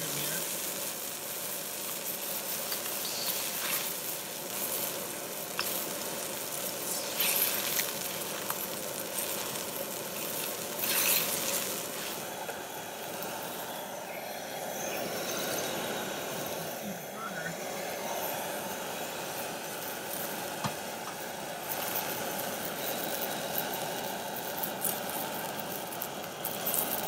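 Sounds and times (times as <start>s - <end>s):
water sizzling in a hot wok: 0.0s - 27.0s.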